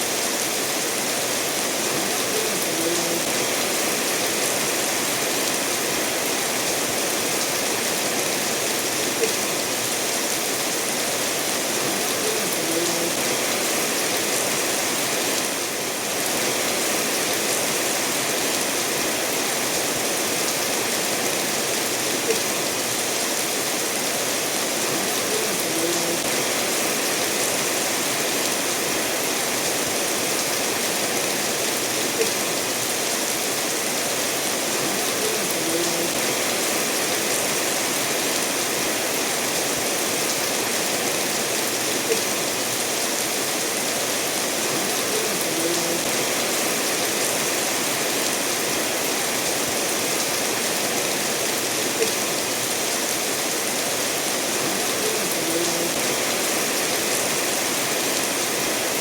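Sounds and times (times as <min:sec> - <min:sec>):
steady rain falling: 0:00.0 - 0:59.0
stream running over stones: 0:00.0 - 0:59.0.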